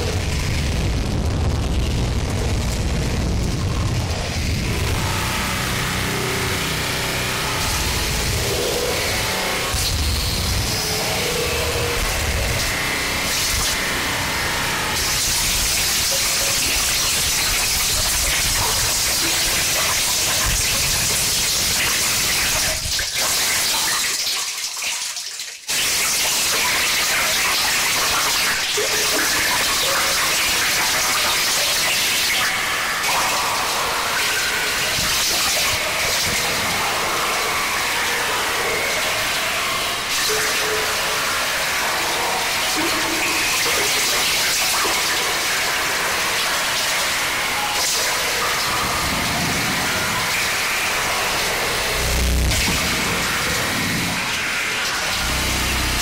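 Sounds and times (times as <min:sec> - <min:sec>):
harsh static noise music: 0:00.0 - 0:56.0.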